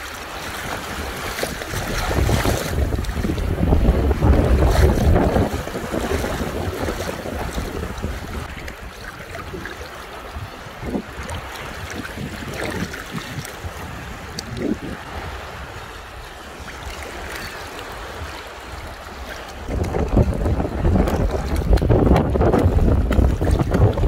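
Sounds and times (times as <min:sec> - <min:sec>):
small waves lapping: 0:00.0 - 0:24.0
swimmer splashing: 0:00.0 - 0:24.0
wind buffeting microphone: 0:00.0 - 0:24.0.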